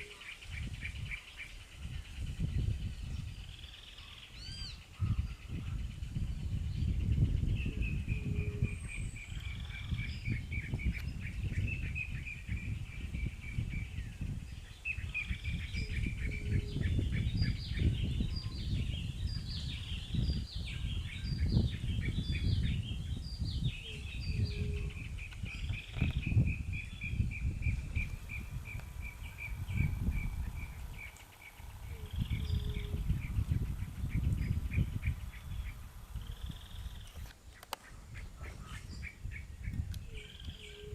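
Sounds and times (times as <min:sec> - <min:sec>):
bird singing trills: 0:00.0 - 0:40.9.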